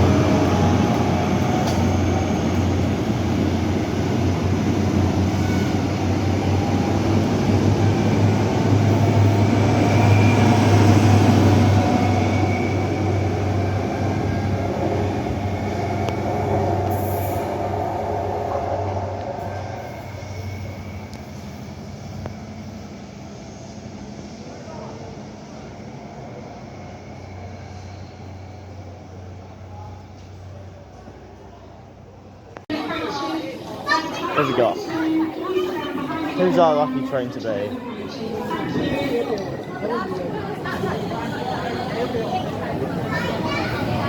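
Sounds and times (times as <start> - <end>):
diesel train engine: 0.0 - 44.0.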